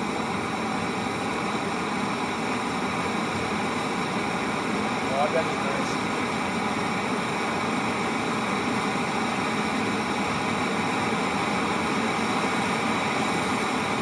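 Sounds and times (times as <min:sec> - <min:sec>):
rocket engine hissing: 0:00.0 - 0:14.0.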